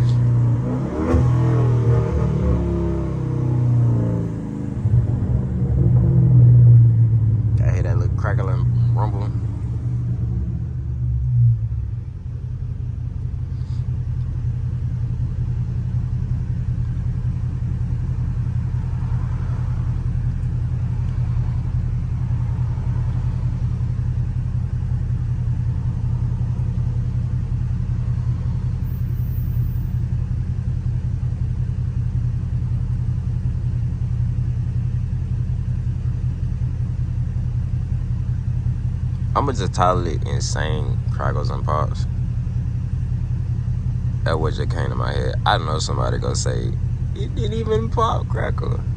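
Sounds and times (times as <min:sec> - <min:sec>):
car exhaust low rumble: 0:00.0 - 0:48.9.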